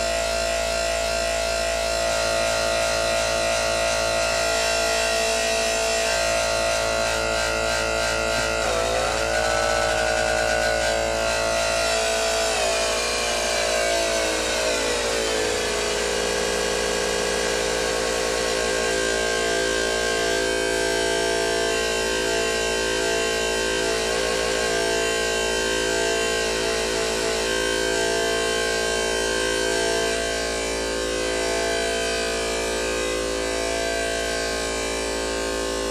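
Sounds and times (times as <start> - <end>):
buzzy synthesizer drone: 0.0 - 35.9.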